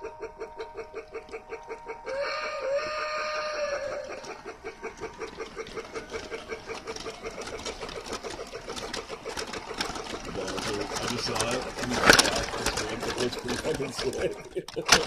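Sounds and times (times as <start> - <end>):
toy train chugging: 0.0 - 15.0.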